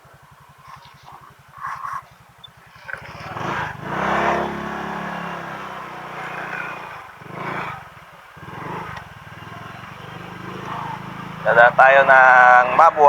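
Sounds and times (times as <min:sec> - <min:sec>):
scooter engine idling and pulling away: 0:00.0 - 0:13.0.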